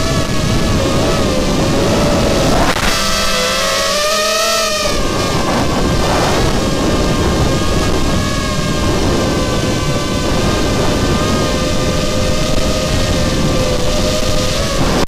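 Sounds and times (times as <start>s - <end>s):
drone motors whining: 0.0s - 15.0s
wind rumble on microphone: 0.0s - 15.0s.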